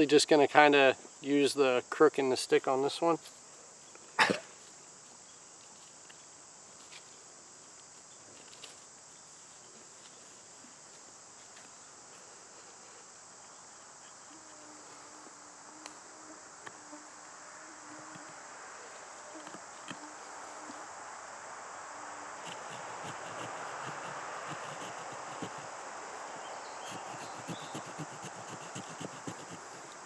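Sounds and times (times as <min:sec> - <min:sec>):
insects chorus: 0:00.0 - 0:30.0
flying insect buzz: 0:03.1 - 0:30.0.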